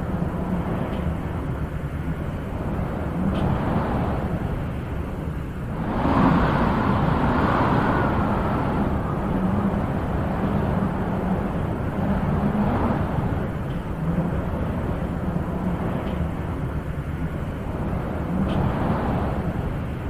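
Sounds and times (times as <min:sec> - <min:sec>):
wind blowing in gusts: 0:00.0 - 0:20.0.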